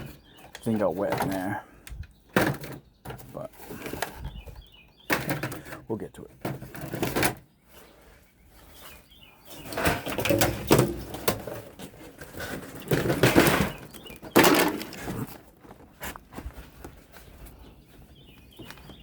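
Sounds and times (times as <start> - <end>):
rustling and knocking of objects: 0.0 - 19.0.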